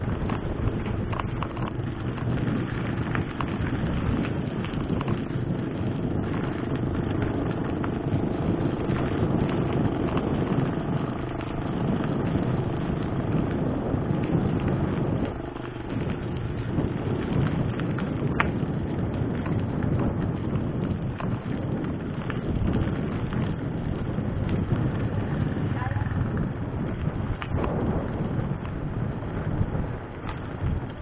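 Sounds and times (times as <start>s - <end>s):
bike rattling clicks: 0.0s - 31.0s
bike tyres and air rumbling: 0.0s - 31.0s.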